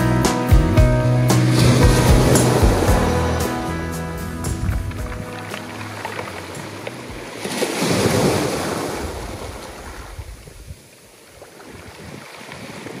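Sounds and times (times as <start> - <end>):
waves washing over cobblestones: 1.3 - 13.0.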